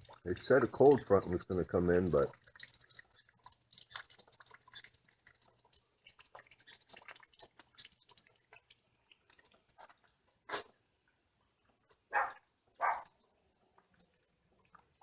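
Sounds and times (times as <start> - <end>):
sleet and rain drops ticking: 0.0 - 15.0.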